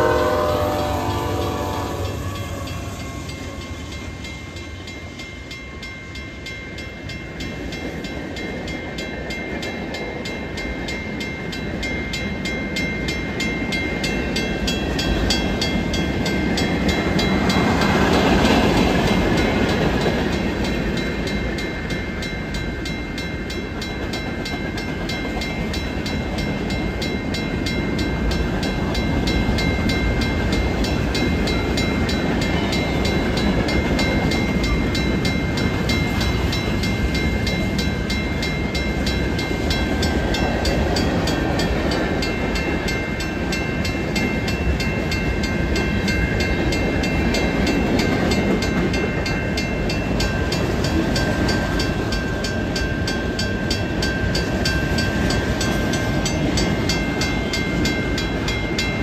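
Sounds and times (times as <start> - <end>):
freight train wheels on rails: 0.0 - 59.0
railroad crossing bell ringing: 0.0 - 59.0.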